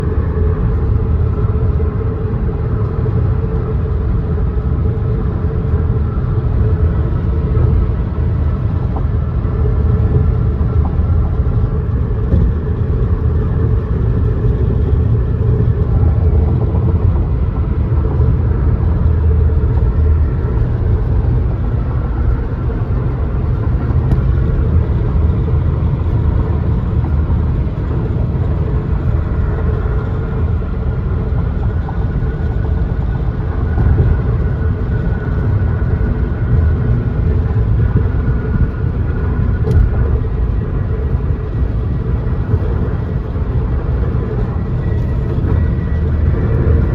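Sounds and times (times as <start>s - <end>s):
road and wind rumble in car cabin: 0.0s - 46.9s.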